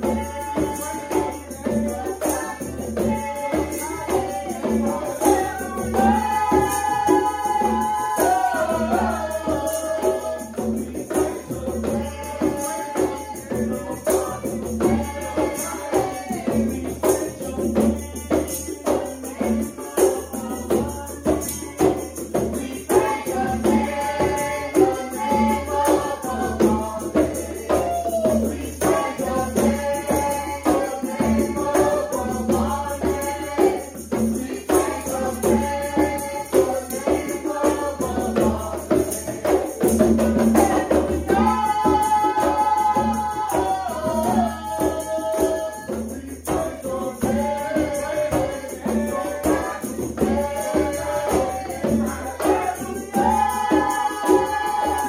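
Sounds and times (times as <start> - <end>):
hand drums: 0.0 - 55.0
tambourine jingling: 0.0 - 55.0
voices singing held notes: 0.0 - 55.0.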